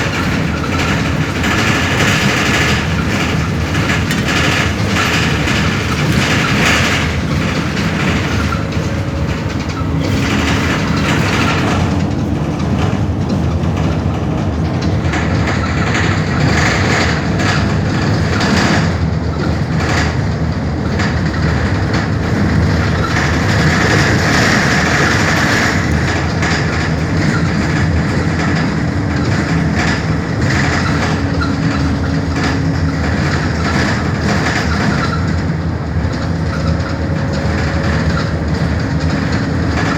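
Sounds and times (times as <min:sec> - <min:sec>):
bus engine hum: 0:00.0 - 0:39.9
rattling road noise: 0:00.0 - 0:39.9.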